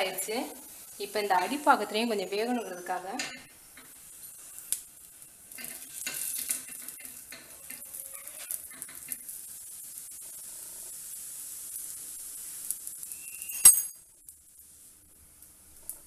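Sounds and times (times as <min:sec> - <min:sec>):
bread roll sizzling in pan: 0:00.0 - 0:16.0.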